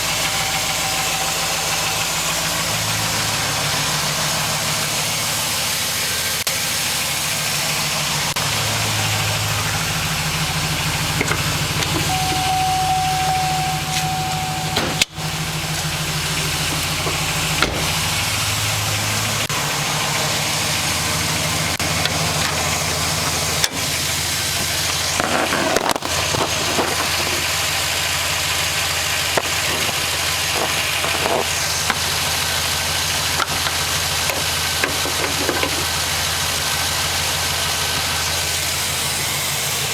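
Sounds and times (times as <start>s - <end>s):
engine idling with piston knocking: 0.0s - 39.9s.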